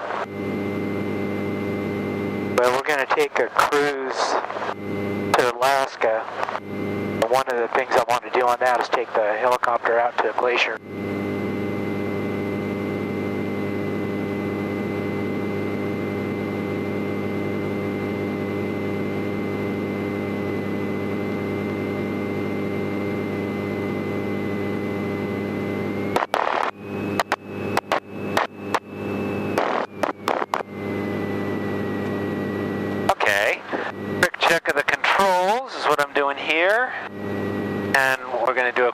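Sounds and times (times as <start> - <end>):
thin high whine: 0.0 - 38.9.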